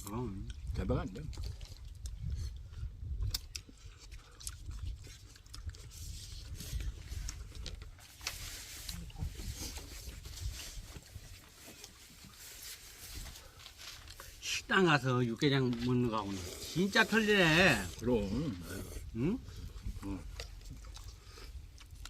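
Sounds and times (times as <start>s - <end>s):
people slurping and chewing: 0.0s - 22.0s.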